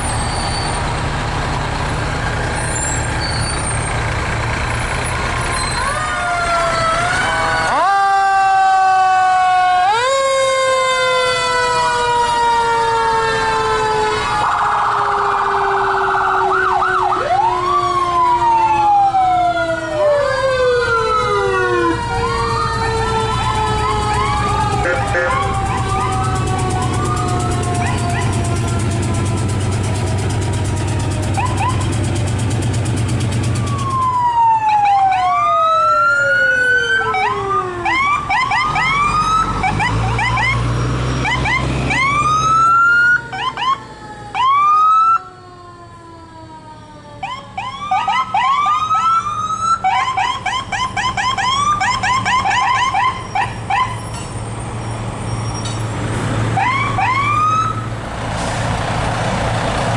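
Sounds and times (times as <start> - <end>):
fire truck sirens: 0.0 - 59.9
truck engines rumbling: 0.0 - 59.9.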